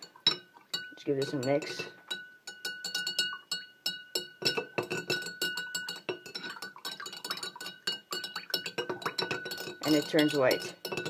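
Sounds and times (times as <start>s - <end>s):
metal utensil clinking glass jar: 0.0s - 11.0s.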